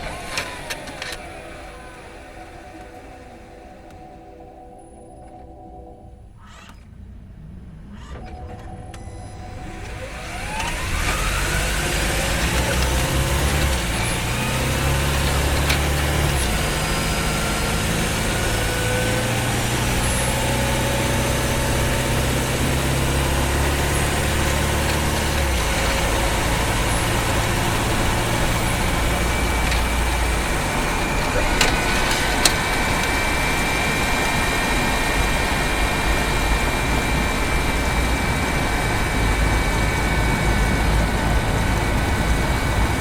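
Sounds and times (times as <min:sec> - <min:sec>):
car engine running under load: 0:00.0 - 0:04.5, 0:06.2 - 0:43.0
drivetrain whine rising: 0:00.0 - 0:43.0.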